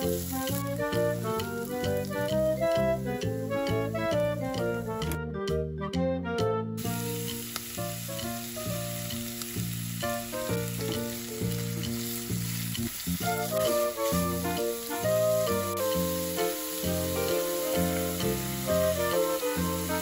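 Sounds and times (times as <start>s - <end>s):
meat sizzling in hot oil: 0.0s - 5.1s, 6.8s - 20.0s
background music: 0.0s - 20.0s.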